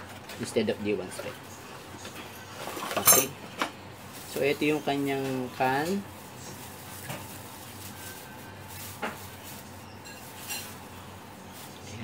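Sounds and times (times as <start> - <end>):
plastic wrapping rustling: 0.0 - 12.0.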